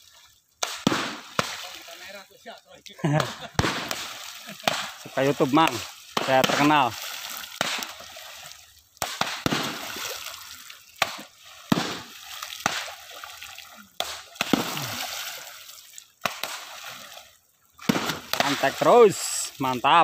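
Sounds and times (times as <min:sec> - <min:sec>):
poles slapping water: 0:00.0 - 0:20.0
water splashing: 0:00.0 - 0:20.0.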